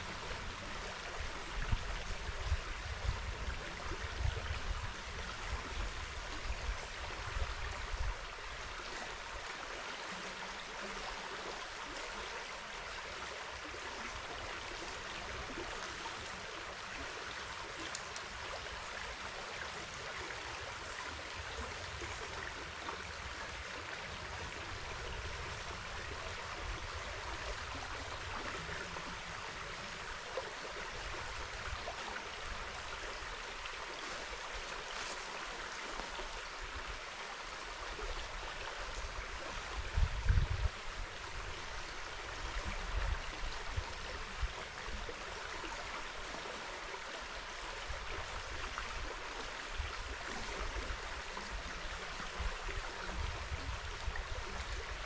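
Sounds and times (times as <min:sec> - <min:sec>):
river water rushing over stones: 0:00.0 - 0:55.0.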